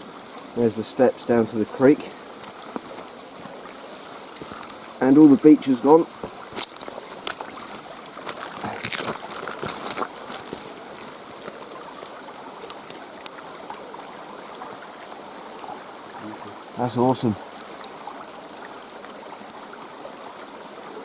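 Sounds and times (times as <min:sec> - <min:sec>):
creek rushing: 0:00.0 - 0:21.0.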